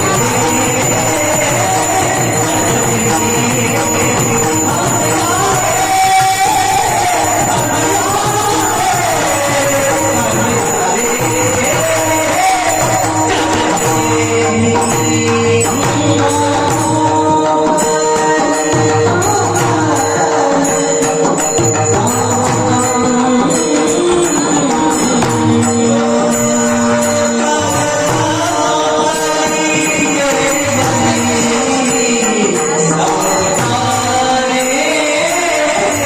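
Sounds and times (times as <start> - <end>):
jingling hand percussion: 0.0 - 36.0
man singing: 0.0 - 36.0.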